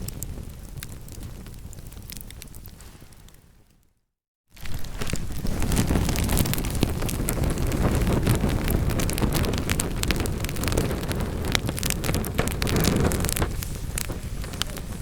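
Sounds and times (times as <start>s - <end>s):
crackles and pops of burning wood: 0.0s - 3.8s, 4.5s - 15.0s
low rumble of flames: 0.0s - 3.9s, 4.6s - 15.0s.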